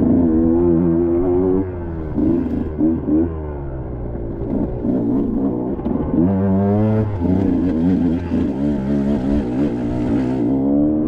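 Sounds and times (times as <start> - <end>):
dirt bike engine revving: 0.0 - 3.7, 4.3 - 11.0.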